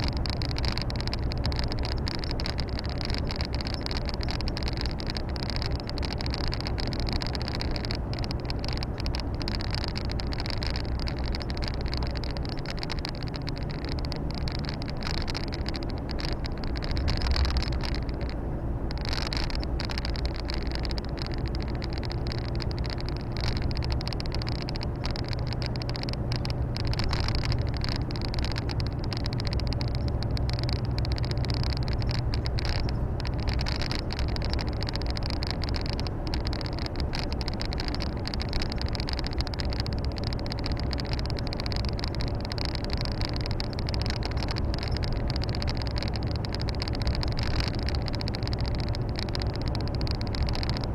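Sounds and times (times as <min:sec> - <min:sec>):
road noise: 0:00.0 - 0:50.9
truck diesel engine drone: 0:00.0 - 0:50.9.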